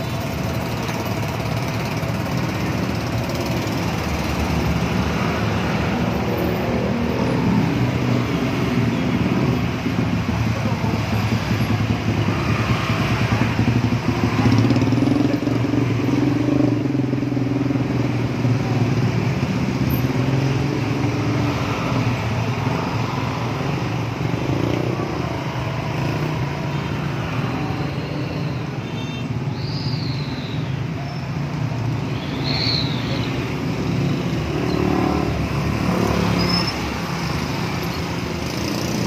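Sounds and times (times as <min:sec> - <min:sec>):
motorcycle and car engines: 0:00.0 - 0:39.0.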